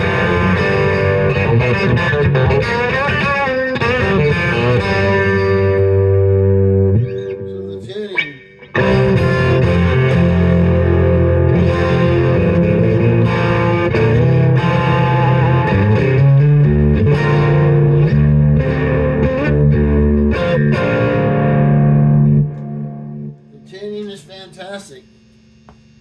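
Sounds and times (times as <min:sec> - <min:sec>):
loud electric guitar chords: 0:00.0 - 0:23.5.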